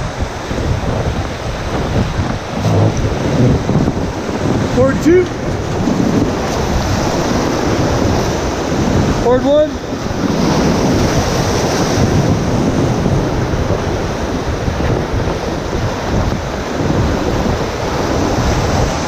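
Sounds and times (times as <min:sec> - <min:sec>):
river rapids rushing: 0:00.0 - 0:19.0
wind buffeting microphone: 0:00.0 - 0:19.0.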